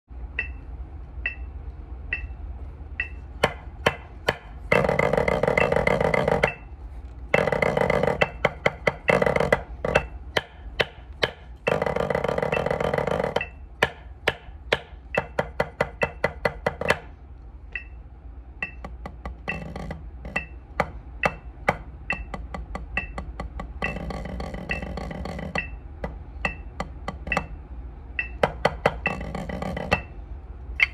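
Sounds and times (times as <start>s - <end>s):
drum rolls on practice pad: 0.1s - 30.8s
drumsticks on practice pad: 0.1s - 30.9s.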